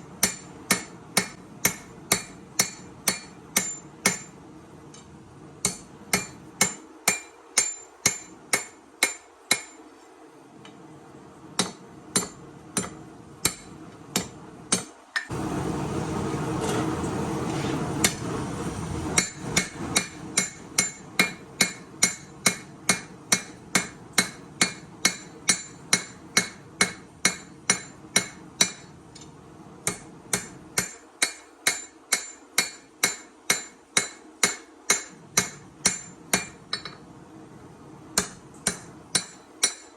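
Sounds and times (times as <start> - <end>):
hammer striking steel on anvil: 0.2 - 9.9, 11.6 - 15.3, 19.2 - 37.0, 38.2 - 39.9.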